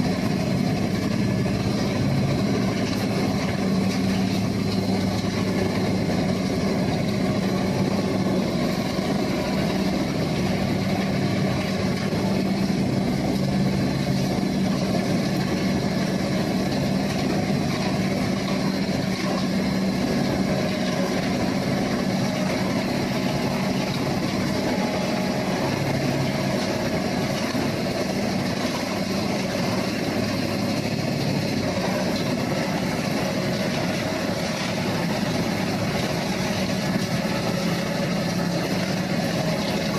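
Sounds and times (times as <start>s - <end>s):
heavy engine humming: 0.0s - 39.9s.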